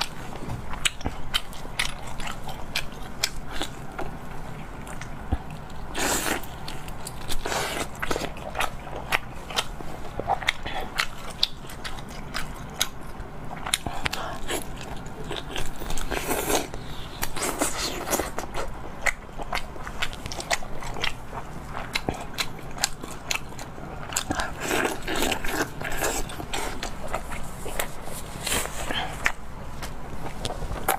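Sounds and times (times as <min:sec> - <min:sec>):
crunchy chewing: 0:00.0 - 0:30.9.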